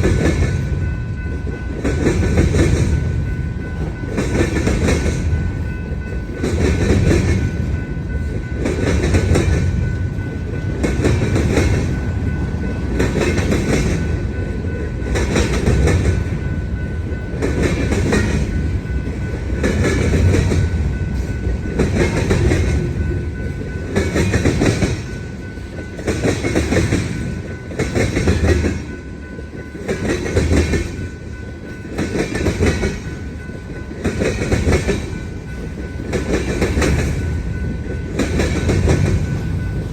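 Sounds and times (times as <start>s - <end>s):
train rolling rumble: 0.0s - 39.9s
train wheels clattering: 0.0s - 39.9s.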